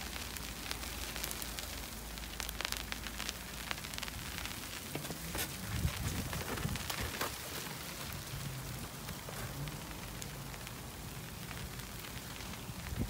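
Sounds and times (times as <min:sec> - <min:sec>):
snow hissing on umbrella: 0:00.0 - 0:13.0
snowflakes ticking on umbrella: 0:00.0 - 0:13.0.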